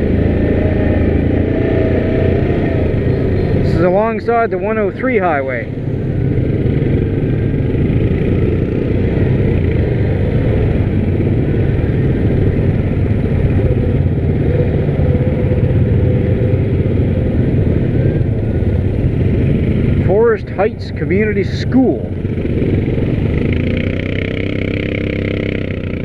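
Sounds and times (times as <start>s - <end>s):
atv engine rumbling: 0.0s - 26.0s.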